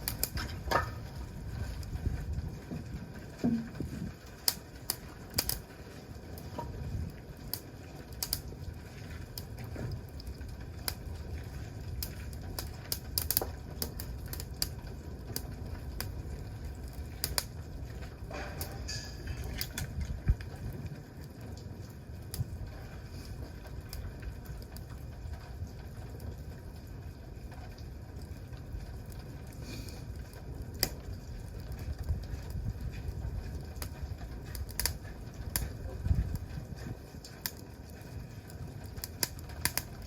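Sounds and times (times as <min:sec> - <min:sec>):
campfire crackling: 0:00.0 - 0:40.0
low steady rumble: 0:00.0 - 0:40.0.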